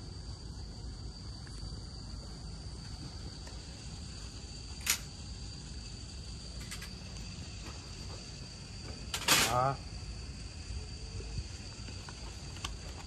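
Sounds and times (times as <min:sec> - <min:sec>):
insects droning: 0:00.0 - 0:13.0
aerosol spray hiss: 0:02.3 - 0:13.0.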